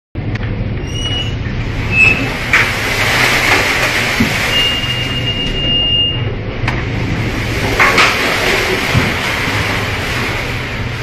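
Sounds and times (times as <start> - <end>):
heavy sea noise: 0.2 - 11.0
steady low hum: 0.2 - 11.0
storm wind: 0.2 - 11.0.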